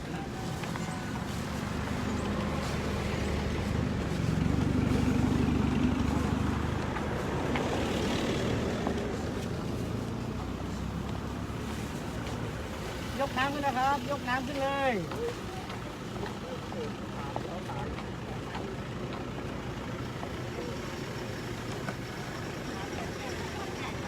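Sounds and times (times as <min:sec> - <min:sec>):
vehicle engine passing: 0:00.1 - 0:24.0.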